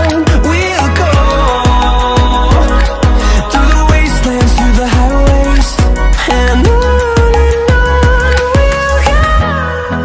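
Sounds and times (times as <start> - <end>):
pop song: 0.0 - 10.0.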